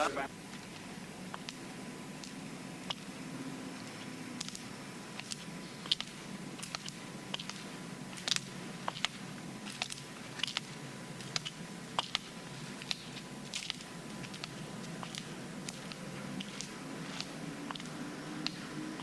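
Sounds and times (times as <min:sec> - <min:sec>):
low steady hum: 0:00.0 - 0:19.0
sharp clicks and ticks: 0:00.6 - 0:01.6, 0:02.2 - 0:03.1, 0:04.4 - 0:19.0.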